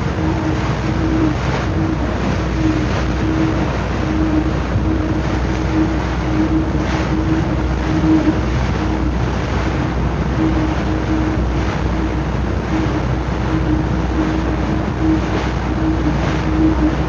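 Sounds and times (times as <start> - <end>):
churning water rushing: 0.0 - 17.0
hum: 0.0 - 17.0
low rumble: 0.0 - 17.0.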